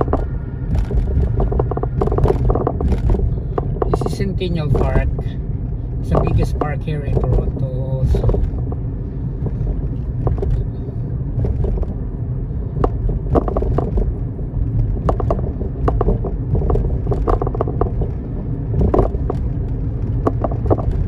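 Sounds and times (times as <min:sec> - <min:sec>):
short knocks and rattles: 0:00.0 - 0:05.4, 0:06.0 - 0:10.7, 0:11.3 - 0:12.1, 0:12.7 - 0:21.0
car road and engine rumble: 0:00.0 - 0:21.0.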